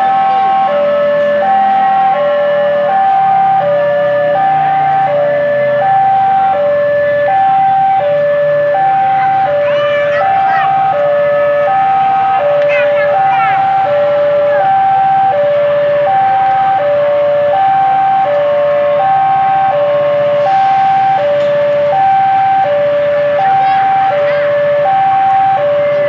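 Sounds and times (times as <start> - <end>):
level crossing two-tone alarm: 0.0 - 26.0.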